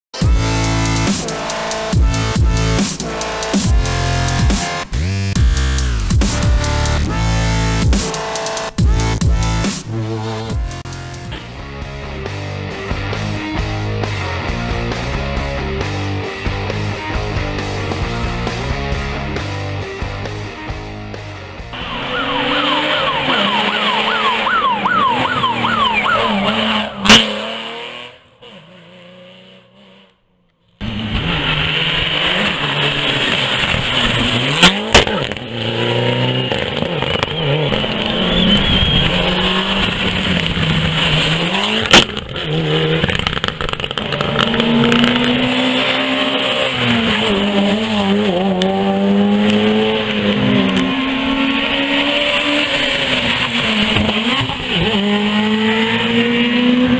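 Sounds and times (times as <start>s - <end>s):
rally car engines revving: 0.2s - 56.9s.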